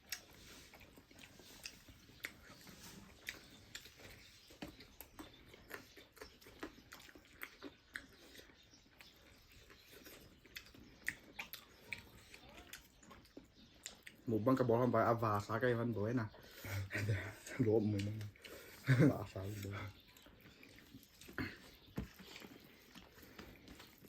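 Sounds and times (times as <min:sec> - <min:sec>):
person chewing food: 0:00.0 - 0:15.0, 0:16.4 - 0:24.0.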